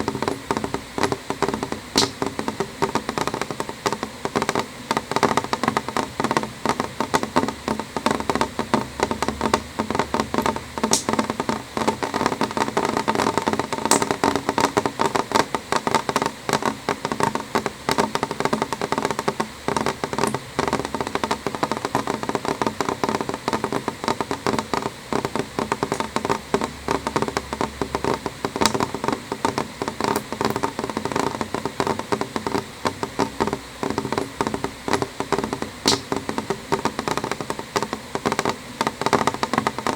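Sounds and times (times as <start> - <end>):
rain on window pane: 0.0 - 39.9.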